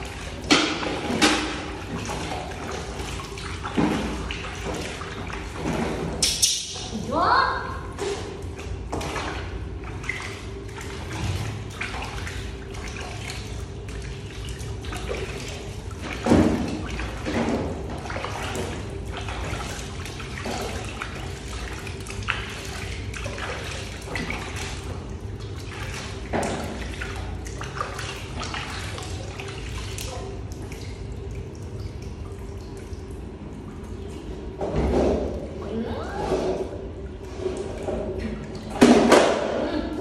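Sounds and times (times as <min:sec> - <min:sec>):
water splashing in a plastic basin: 0:00.0 - 0:40.0.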